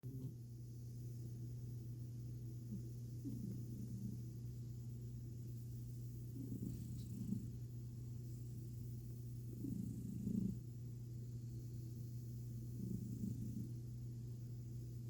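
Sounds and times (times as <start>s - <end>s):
cat purring: 0.0s - 1.6s, 2.2s - 15.0s.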